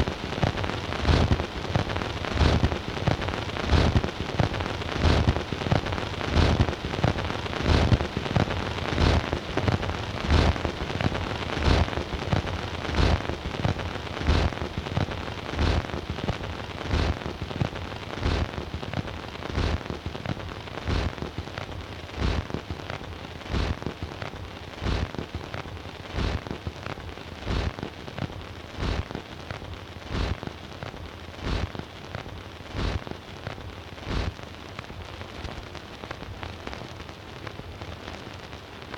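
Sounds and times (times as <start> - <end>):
record surface crackle and hiss: 0.0 - 38.9.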